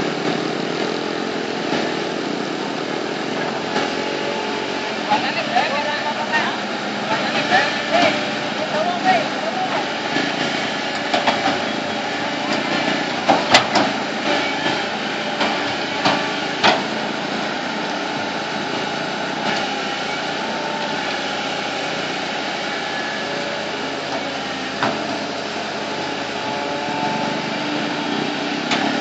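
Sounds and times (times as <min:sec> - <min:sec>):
bulldozer engine running: 0:00.0 - 0:29.0.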